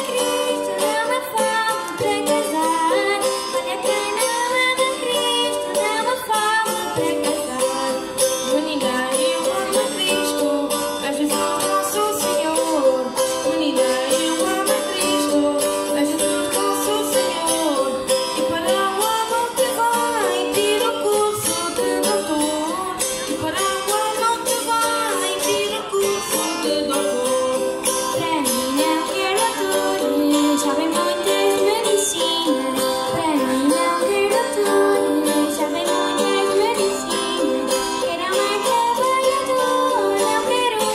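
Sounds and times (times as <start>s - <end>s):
strummed small guitars: 0.0s - 40.9s.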